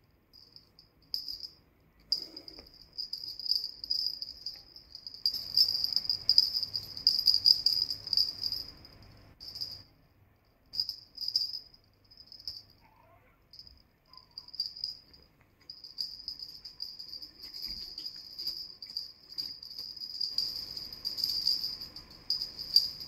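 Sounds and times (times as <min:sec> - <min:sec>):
small bells jingling: 0:00.3 - 0:12.8, 0:13.5 - 0:23.0.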